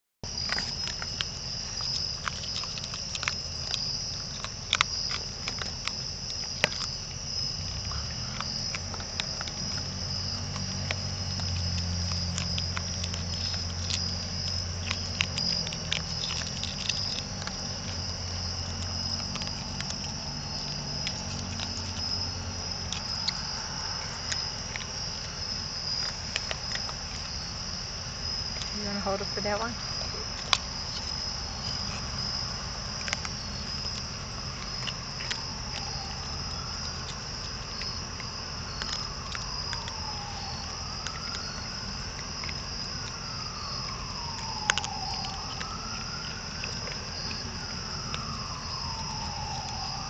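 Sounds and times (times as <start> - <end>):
crickets chirping: 0.2 - 50.0
raccoons crunching dry food: 0.2 - 50.0.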